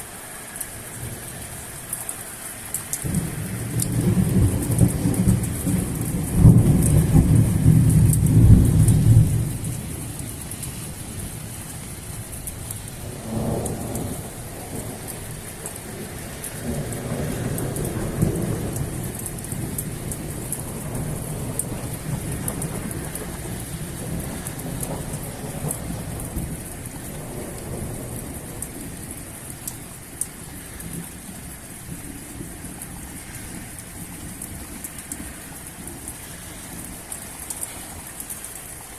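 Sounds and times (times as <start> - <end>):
heavy rain hissing: 0.0 - 38.9
thunder rumbling: 3.0 - 34.9.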